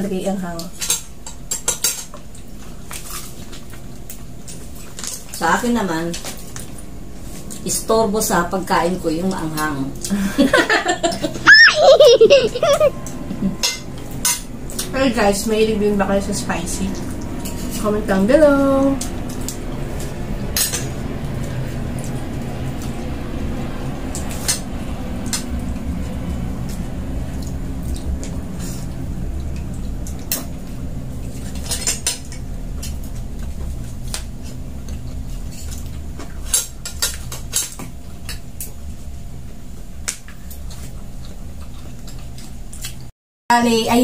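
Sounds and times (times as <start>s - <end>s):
steady low hum: 6.1s - 43.0s.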